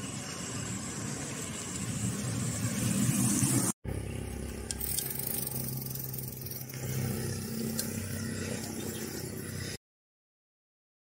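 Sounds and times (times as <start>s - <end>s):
vehicle engine humming: 0.0s - 9.8s.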